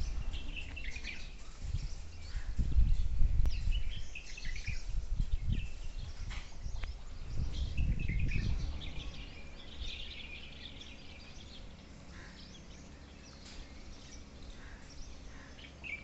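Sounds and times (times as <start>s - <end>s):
low rumble on microphone: 0.0s - 16.0s
outdoor background noise: 0.0s - 16.0s
small birds chirping: 0.0s - 16.0s.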